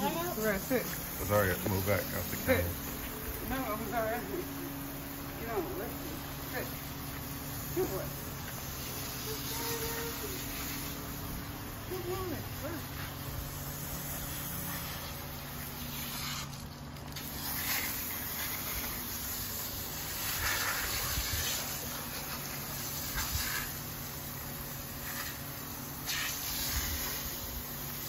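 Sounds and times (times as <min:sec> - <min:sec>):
steady low hum: 0:00.0 - 0:26.0
hose water splashing: 0:00.0 - 0:28.0.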